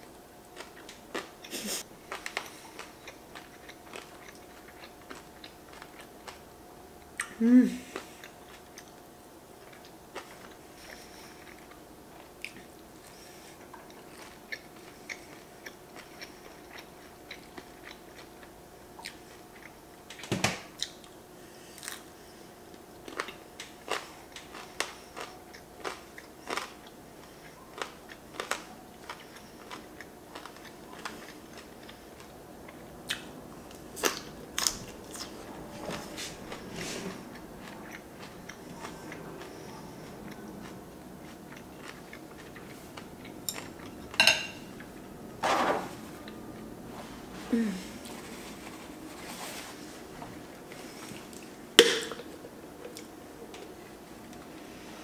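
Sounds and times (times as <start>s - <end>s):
soft chewing: 0.0s - 45.1s.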